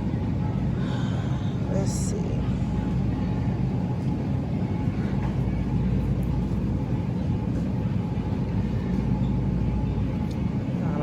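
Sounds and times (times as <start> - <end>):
store background rumble: 0.0 - 11.0.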